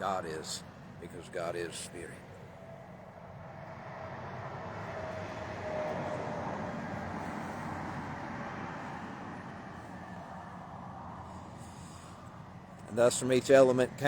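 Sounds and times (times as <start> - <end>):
passing vehicle road noise: 0.0 - 14.0.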